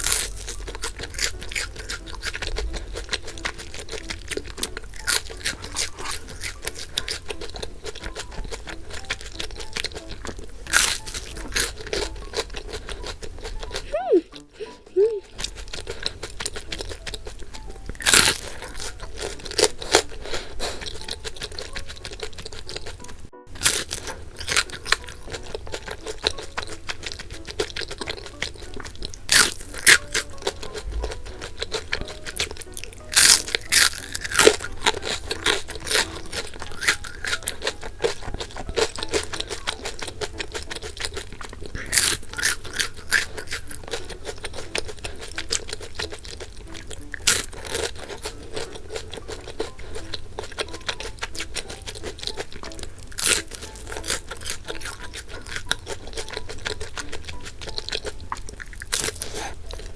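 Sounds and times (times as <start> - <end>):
crunching and chewing pastry: 0.0 - 59.9
light background music: 0.0 - 59.9.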